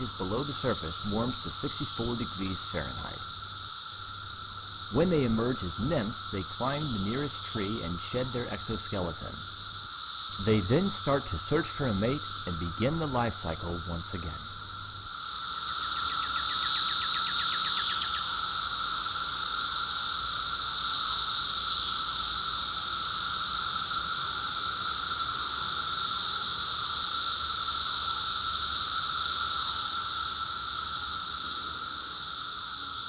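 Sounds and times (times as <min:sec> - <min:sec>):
cicadas buzzing drone: 0:00.0 - 0:33.0.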